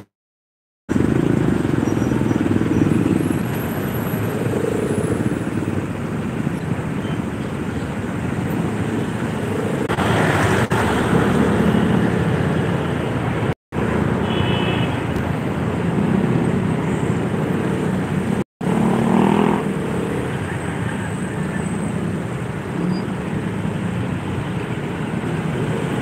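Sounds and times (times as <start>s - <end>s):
rush of road traffic: 0.9s - 26.0s.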